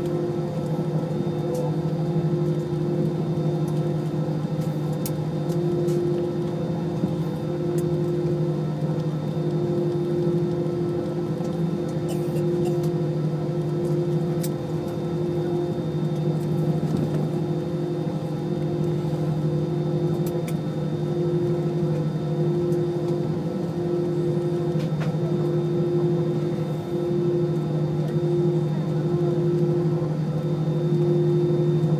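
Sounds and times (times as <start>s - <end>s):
jet engine hum in cabin: 0.0s - 31.9s.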